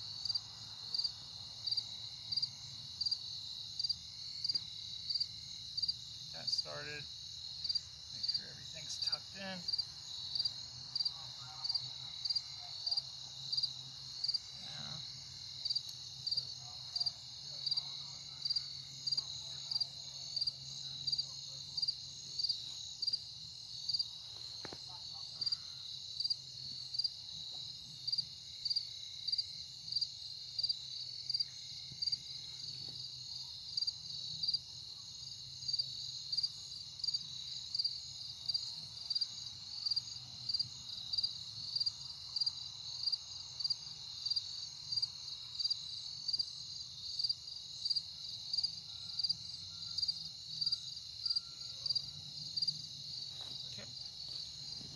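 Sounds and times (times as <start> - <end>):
insects trilling and chirping: 0.0 - 54.9.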